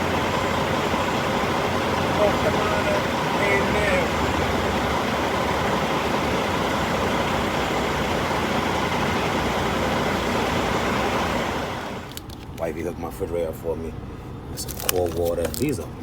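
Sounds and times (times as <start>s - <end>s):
road noise: 0.0s - 16.0s
truck engine rumble: 0.0s - 16.0s.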